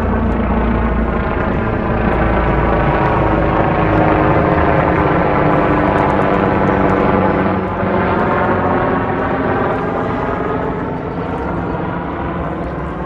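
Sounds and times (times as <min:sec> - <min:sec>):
helicopter flying overhead: 0:00.0 - 0:13.0.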